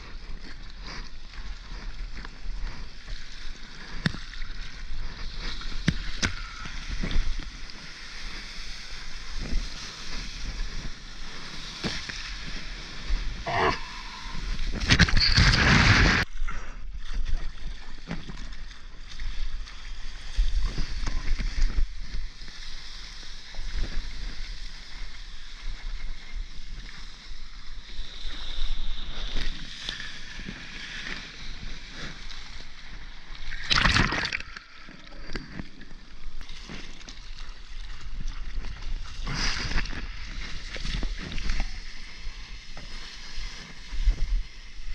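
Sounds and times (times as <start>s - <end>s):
water sloshing against surfboard: 0.0s - 44.9s.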